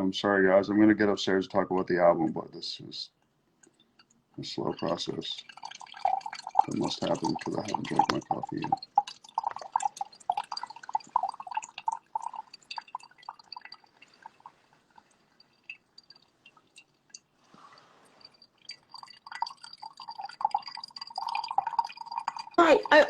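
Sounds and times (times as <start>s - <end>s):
coffee dripping: 0.6s - 23.0s.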